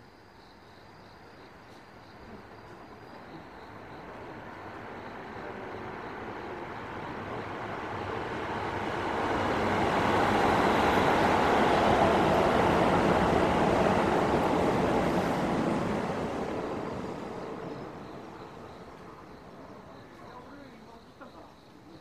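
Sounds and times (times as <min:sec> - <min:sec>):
electric train passing overhead: 0:00.0 - 0:22.0.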